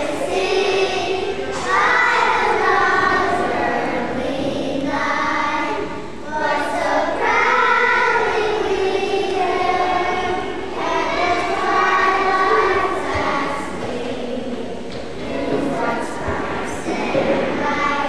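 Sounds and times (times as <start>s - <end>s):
girls choir singing: 0.0s - 18.0s.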